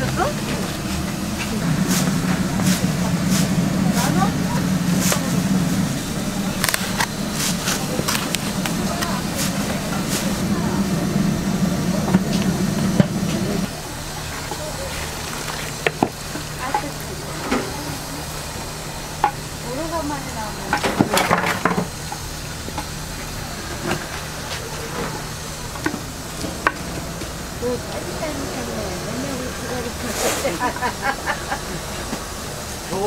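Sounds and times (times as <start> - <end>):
faint voices: 0.0 - 33.0
low hum: 0.0 - 33.0
stockpot bubbling and hissing: 0.0 - 33.0.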